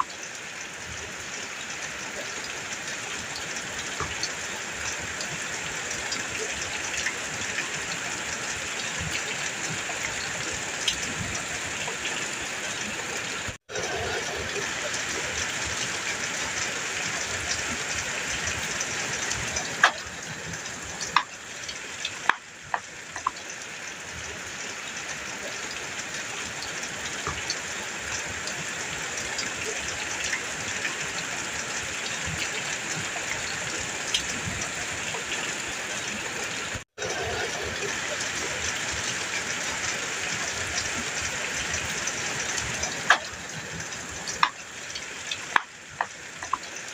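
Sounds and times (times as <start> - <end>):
heavy rain on a metal roof: 0.0 - 46.9
sharp drips: 0.0 - 46.9.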